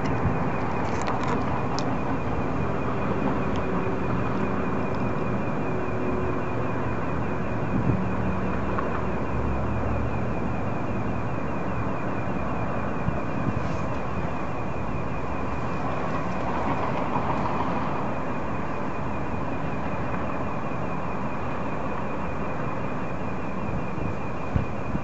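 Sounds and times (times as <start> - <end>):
continuous rumbling drone: 0.0 - 25.0.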